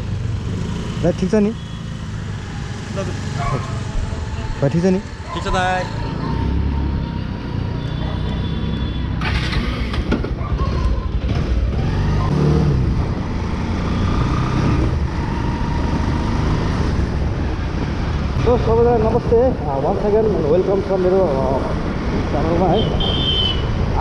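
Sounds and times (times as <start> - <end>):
motorcycle engine: 0.0 - 24.0.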